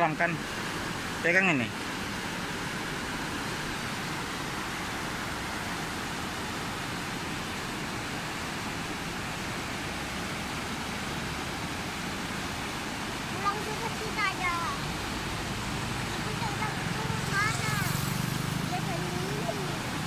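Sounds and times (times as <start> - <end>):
river rushing over rapids: 0.0 - 20.0.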